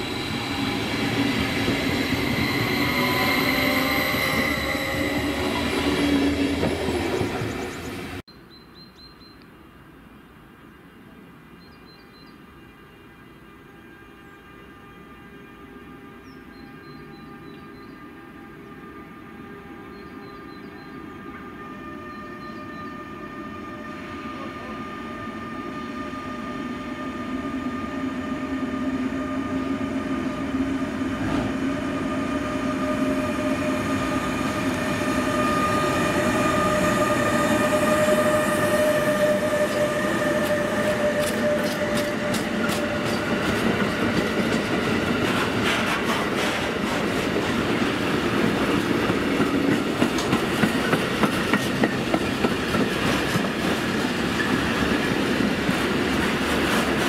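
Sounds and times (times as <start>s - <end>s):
electric locomotive whine: 0.0s - 8.3s, 12.5s - 57.0s.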